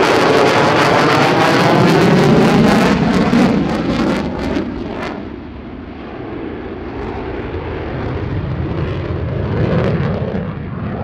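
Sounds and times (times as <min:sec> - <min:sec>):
jet engine rumble with crackles: 0:00.0 - 0:11.0.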